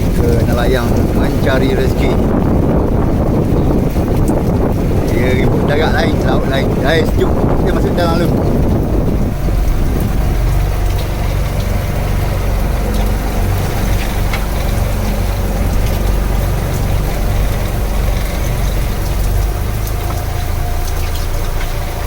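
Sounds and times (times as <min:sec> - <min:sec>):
boat engine droning: 0:00.0 - 0:22.0
rain hiss: 0:00.0 - 0:22.0.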